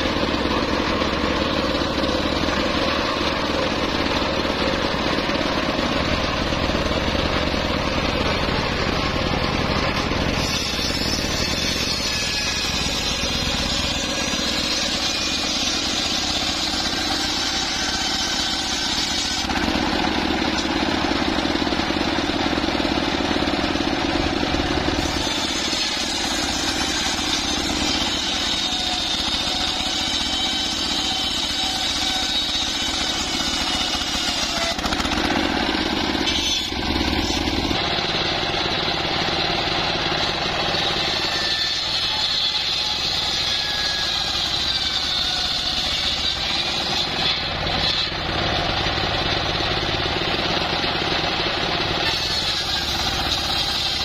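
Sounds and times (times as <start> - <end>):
circular saw ripping wood: 0.0 - 54.0
stationary engine running: 0.0 - 54.0.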